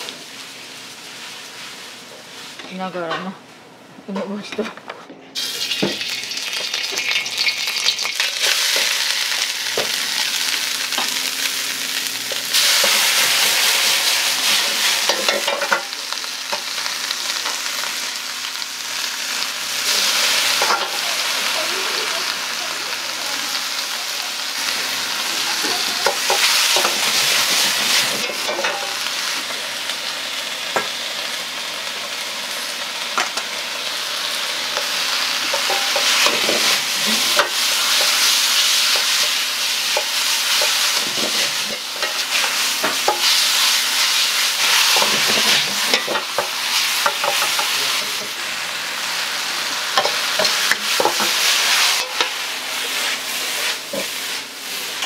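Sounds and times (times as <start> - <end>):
food sizzling in a wok: 0.0 - 3.1, 5.4 - 55.0.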